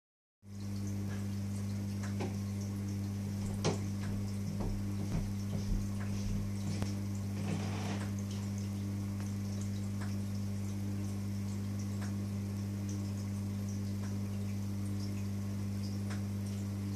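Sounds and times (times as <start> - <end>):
low electrical hum: 0.4 - 16.9
water trickling: 0.5 - 16.9
water drips and clicks: 0.6 - 16.9.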